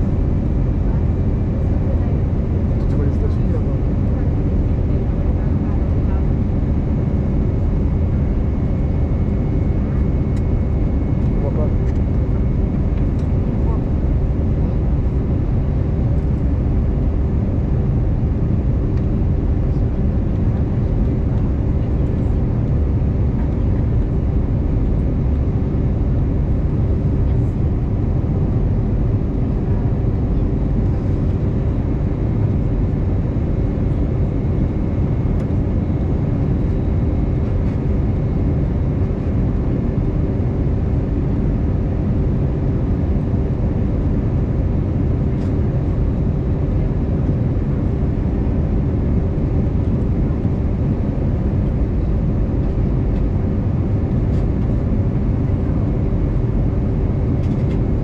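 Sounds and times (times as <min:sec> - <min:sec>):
aircraft cabin engine rumble: 0:00.0 - 0:58.0
constant hum: 0:00.0 - 0:58.0.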